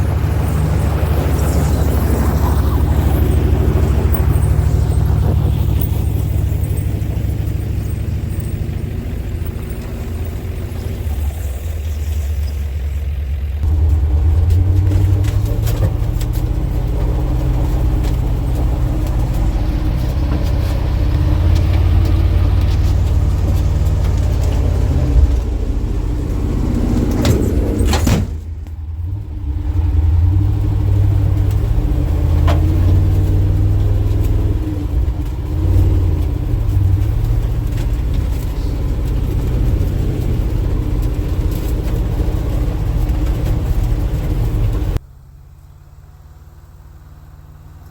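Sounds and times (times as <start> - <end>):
truck engine running: 0.0 - 47.9.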